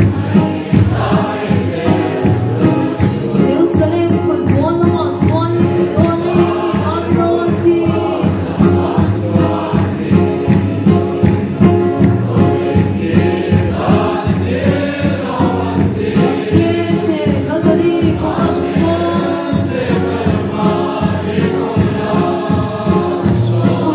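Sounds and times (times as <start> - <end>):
barrel drum beat: 0.0 - 23.9
congregation singing a hymn: 0.0 - 23.9.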